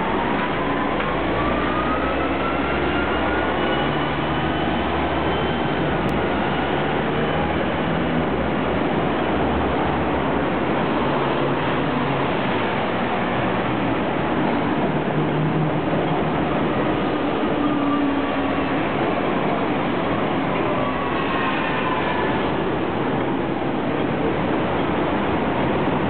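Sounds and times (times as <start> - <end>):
buses and cars passing: 0.0 - 26.0.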